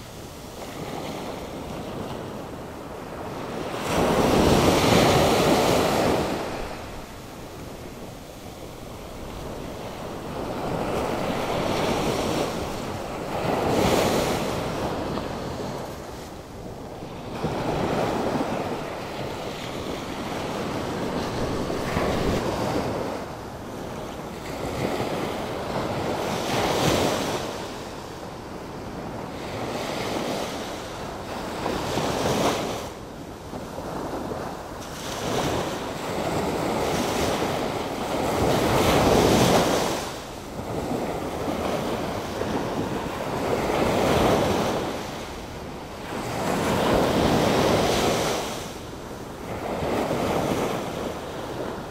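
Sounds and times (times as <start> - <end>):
wind buffeting microphone: 0.2 - 51.9.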